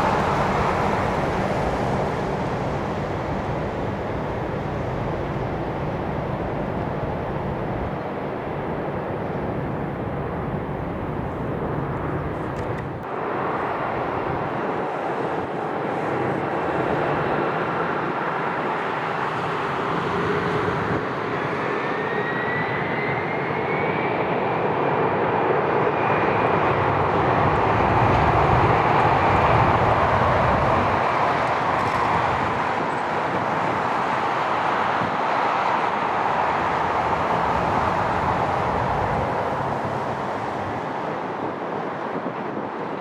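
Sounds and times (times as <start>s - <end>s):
jet airliner taking off: 0.0s - 43.0s.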